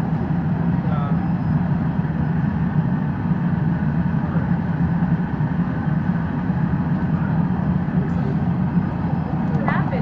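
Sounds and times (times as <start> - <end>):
gas burners and ventilation roar: 0.0 - 10.0.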